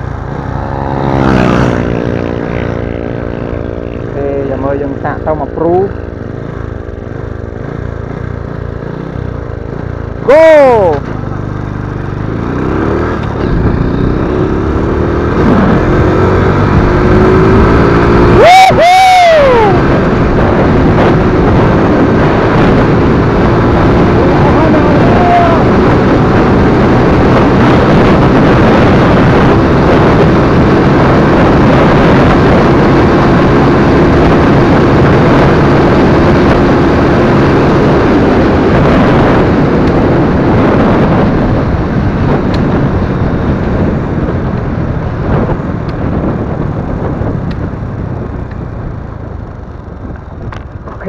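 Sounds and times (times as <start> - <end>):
motorcycle engine at full throttle: 0.0 - 51.0
wind rushing over microphone: 0.0 - 51.0.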